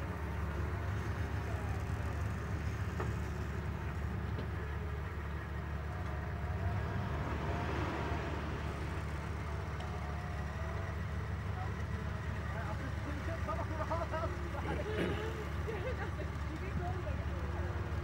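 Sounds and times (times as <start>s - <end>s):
off-road vehicle engine rumble: 0.0s - 18.0s.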